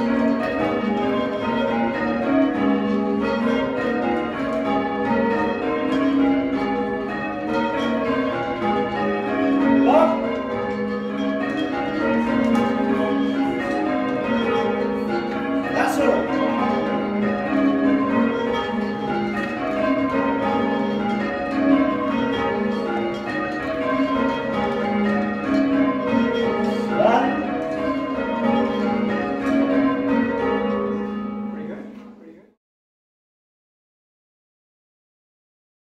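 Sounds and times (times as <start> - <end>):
church bells ringing: 0.0 - 32.4.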